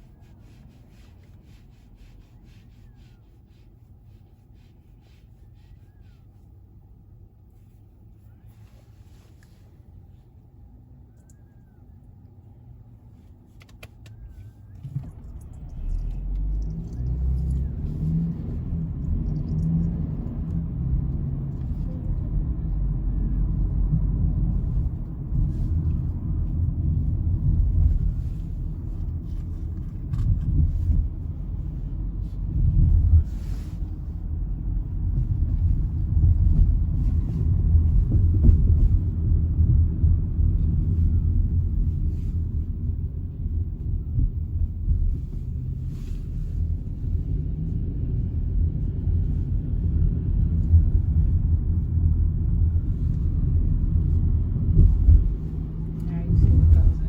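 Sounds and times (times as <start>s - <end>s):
car rumbling: 0.0s - 57.0s.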